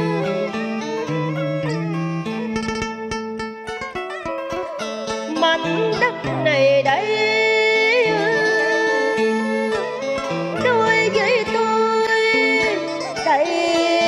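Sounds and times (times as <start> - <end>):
plucked strings: 0.0 - 14.0.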